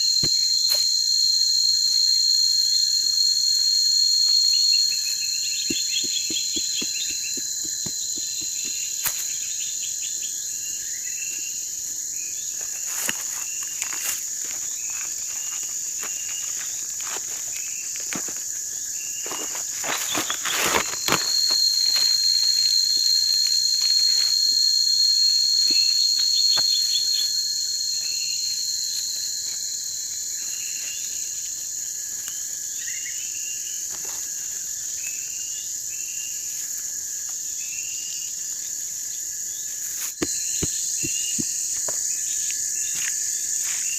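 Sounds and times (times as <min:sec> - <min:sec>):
cricket trills: 0:00.0 - 0:43.9
insect chirps: 0:00.0 - 0:43.9.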